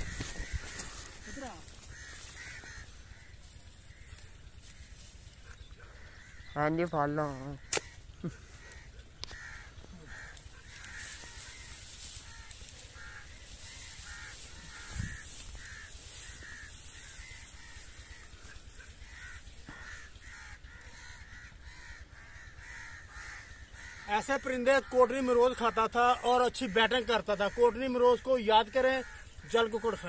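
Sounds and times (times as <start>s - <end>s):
bird calling: 0.0s - 30.0s.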